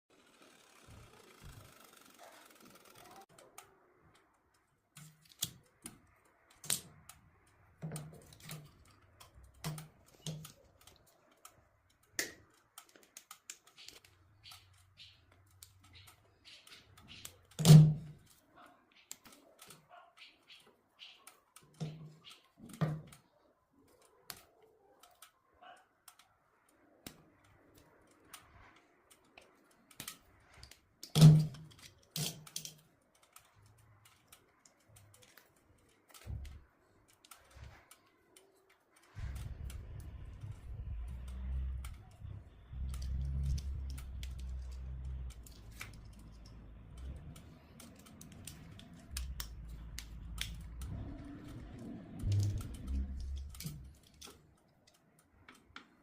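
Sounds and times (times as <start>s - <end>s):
hard objects clicking and knocking: 2.8s - 56.0s.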